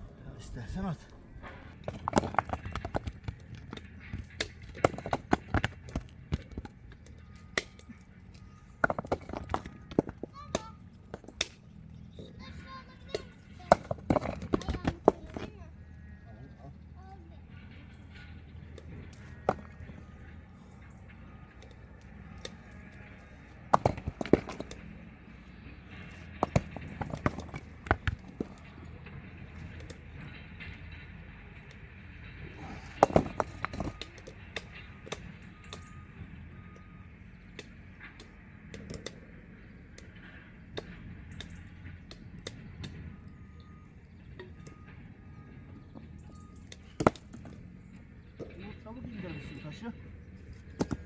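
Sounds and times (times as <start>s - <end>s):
stones clacking together: 1.1s - 11.9s, 13.1s - 16.2s, 17.8s - 25.1s, 25.7s - 31.8s, 32.4s - 36.0s, 37.4s - 43.0s, 45.8s - 51.0s.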